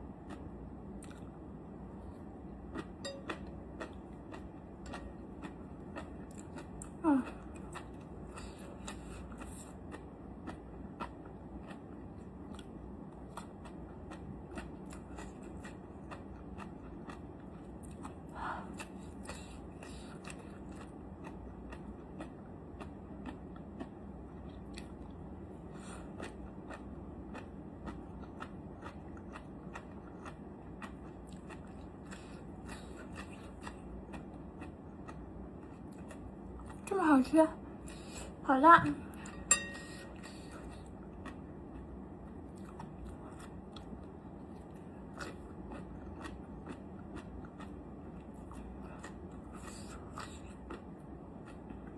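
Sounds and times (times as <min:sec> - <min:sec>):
crunchy chewing: 0:00.2 - 0:36.9, 0:39.2 - 0:51.9.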